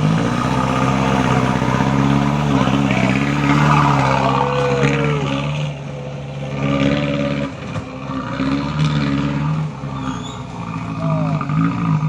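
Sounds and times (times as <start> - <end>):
vehicle engine revving: 0.0 - 12.0.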